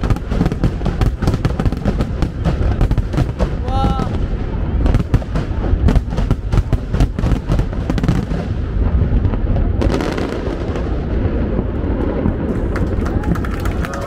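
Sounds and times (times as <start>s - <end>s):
fireworks bursting: 0.0s - 13.9s.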